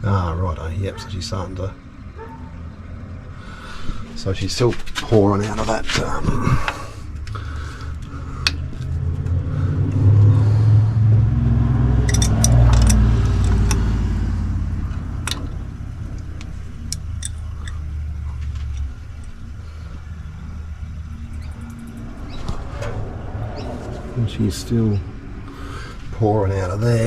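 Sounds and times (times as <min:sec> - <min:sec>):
engine rumbling: 0:00.0 - 0:27.0.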